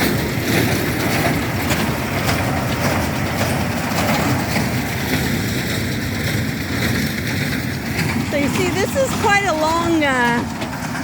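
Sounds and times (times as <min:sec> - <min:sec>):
hay baler mechanism working: 0:00.0 - 0:11.0
tractor engine running: 0:00.0 - 0:11.0.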